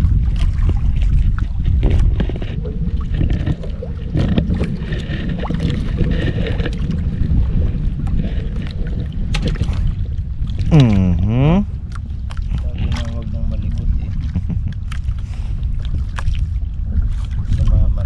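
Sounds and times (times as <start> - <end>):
water lapping against wooden hull: 0.0 - 18.0
wind buffeting microphone: 0.0 - 18.0.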